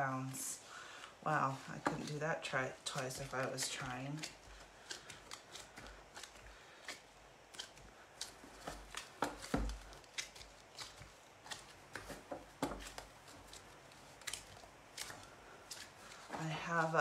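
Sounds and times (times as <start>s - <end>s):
hands slapping clay: 1.1s - 16.3s.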